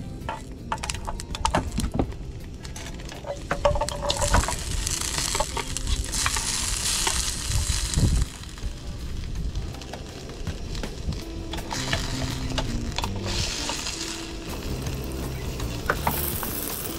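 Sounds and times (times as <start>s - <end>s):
garlic frying in oil: 3.0s - 16.9s.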